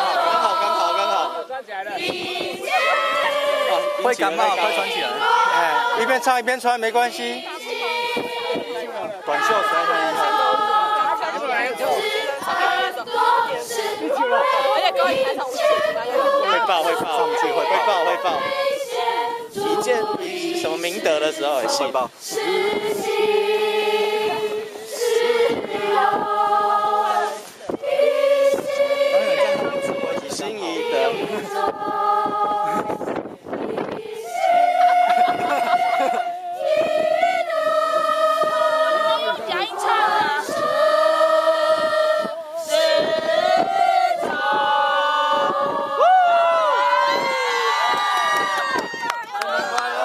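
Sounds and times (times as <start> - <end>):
girls singing unaccompanied: 0.0 - 47.3.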